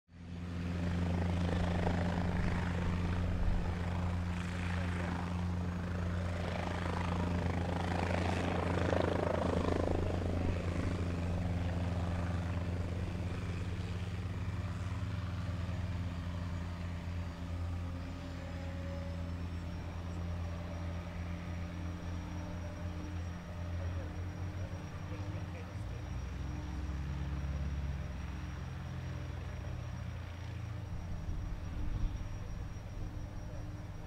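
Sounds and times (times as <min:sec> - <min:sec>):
helicopter turbine engine hum: 0:00.1 - 0:34.0
faint high whine: 0:00.2 - 0:34.0.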